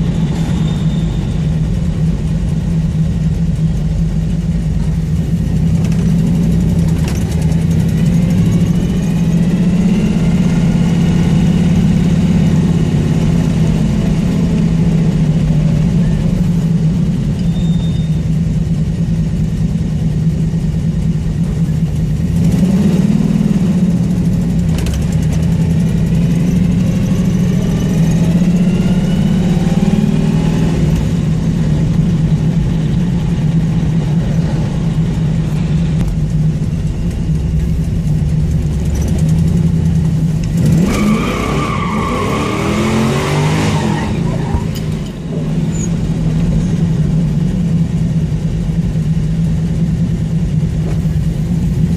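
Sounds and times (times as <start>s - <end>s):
car engine and exhaust droning: 0.0s - 51.9s.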